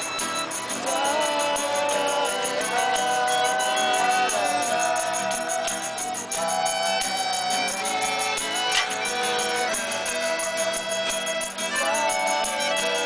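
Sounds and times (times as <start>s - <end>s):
high jingling rhythm: 0.0s - 13.0s
sliding melody notes: 0.0s - 13.0s.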